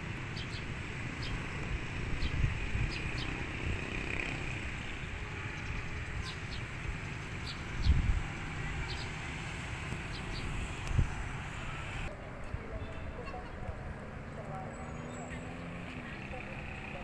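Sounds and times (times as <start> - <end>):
distant street traffic: 0.0 - 17.0.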